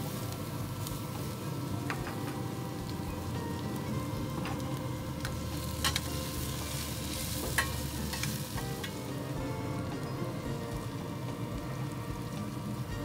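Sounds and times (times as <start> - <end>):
onions sizzling in a skillet: 0.0 - 13.0
steaks searing over flame: 0.0 - 13.0.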